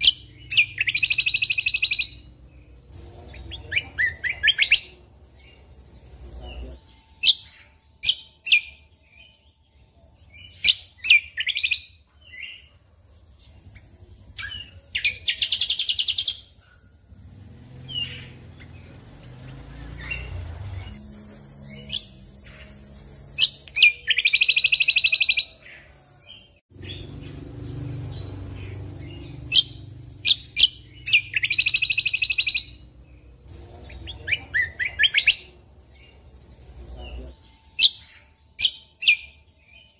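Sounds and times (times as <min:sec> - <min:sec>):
buzzy bird trills: 0:00.0 - 0:39.9
songbird chirping: 0:00.0 - 0:39.9.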